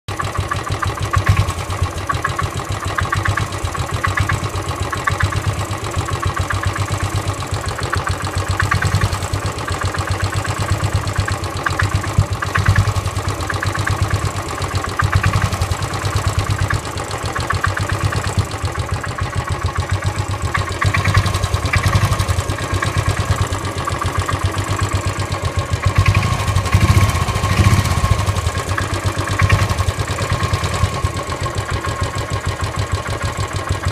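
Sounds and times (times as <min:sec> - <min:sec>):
motorcycle engine idling with knocking: 0:00.1 - 0:33.9.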